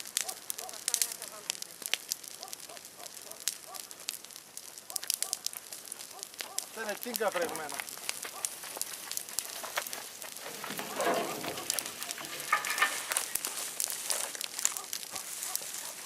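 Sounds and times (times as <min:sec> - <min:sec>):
bonfire crackling and popping: 0:00.0 - 0:16.0
soft hiss of flame: 0:00.0 - 0:16.0.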